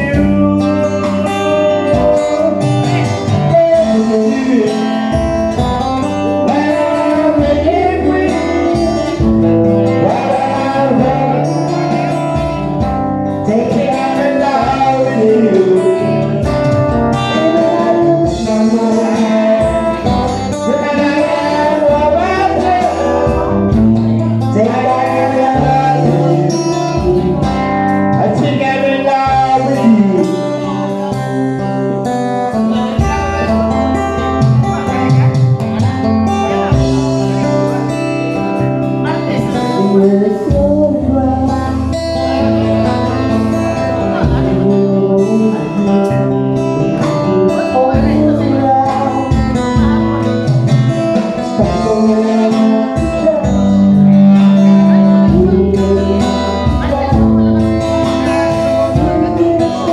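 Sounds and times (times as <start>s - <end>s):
guitar with bent notes: 0.0s - 59.9s
live band playing: 0.0s - 59.9s.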